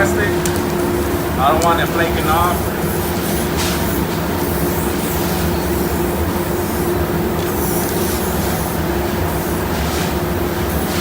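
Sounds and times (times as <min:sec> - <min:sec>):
spray hisses: 0:00.0 - 0:11.0
ventilation drone: 0:00.0 - 0:11.0.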